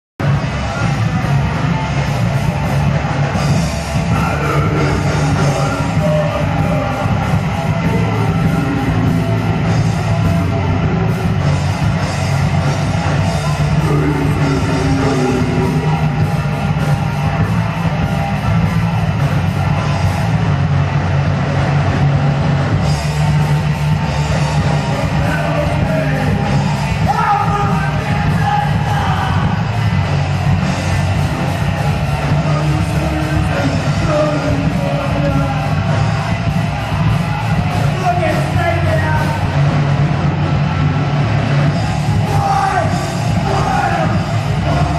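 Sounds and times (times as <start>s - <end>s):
heavy metal music with drums: 0.2s - 44.9s.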